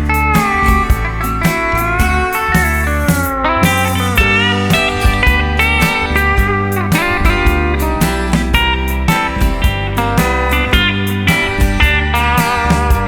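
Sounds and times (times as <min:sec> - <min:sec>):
bass: 0:00.0 - 0:13.0
country guitar lead: 0:00.0 - 0:13.0
steady beat: 0:00.0 - 0:13.0.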